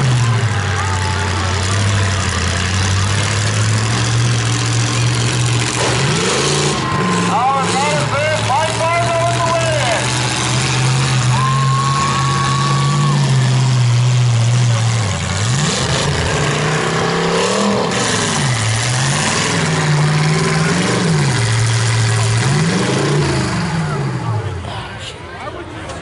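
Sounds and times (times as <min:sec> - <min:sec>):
pickup truck engines running hard: 0:00.0 - 0:26.0.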